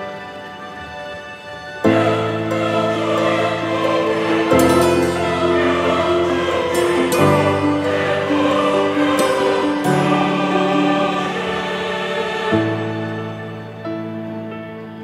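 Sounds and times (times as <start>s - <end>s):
choral music: 0.0s - 15.0s.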